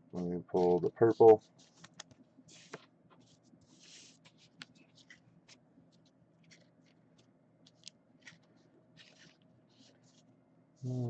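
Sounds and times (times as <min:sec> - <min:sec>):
low room hum: 0:00.0 - 0:11.0
cards swishing and ticking: 0:00.5 - 0:10.3.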